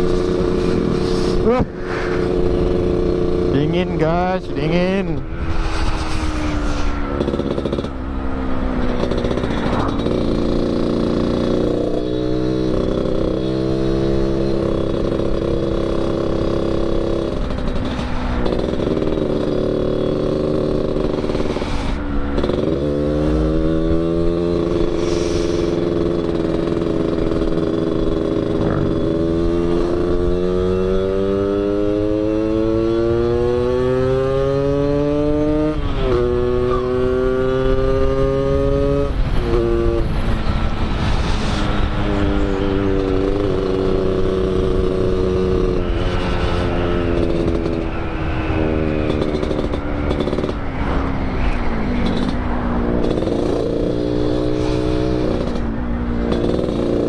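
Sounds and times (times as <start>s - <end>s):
two-stroke motorcycle engine: 0.0s - 5.2s, 7.2s - 40.9s, 41.8s - 57.0s.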